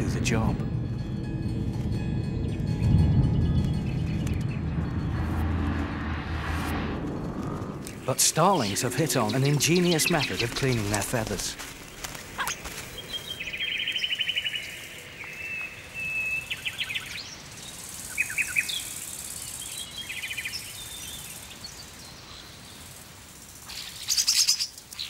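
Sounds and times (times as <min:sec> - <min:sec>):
faint forest background: 0:00.0 - 0:25.0.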